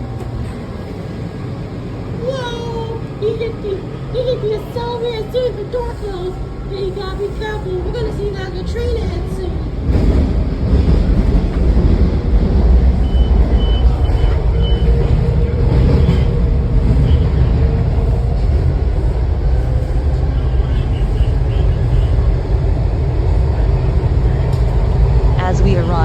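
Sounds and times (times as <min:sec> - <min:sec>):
metro train rumbling in tunnel: 0:00.0 - 0:26.0.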